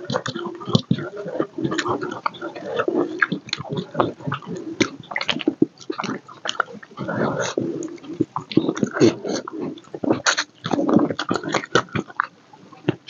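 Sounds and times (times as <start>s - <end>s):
clicky mouth sounds: 0.0s - 13.0s
wet chewing and lip smacking: 0.0s - 13.0s.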